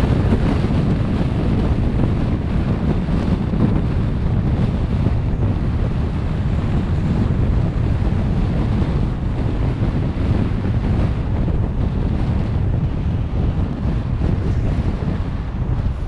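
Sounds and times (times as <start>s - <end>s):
car wind and road noise: 0.0s - 16.0s.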